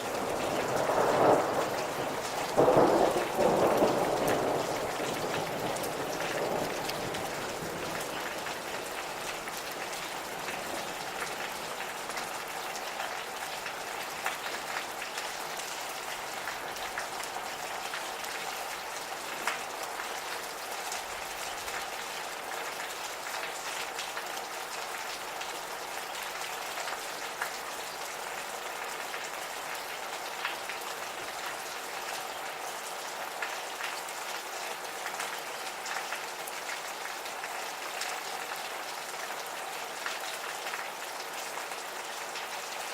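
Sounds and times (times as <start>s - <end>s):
gentle rain patter: 0.0s - 42.9s.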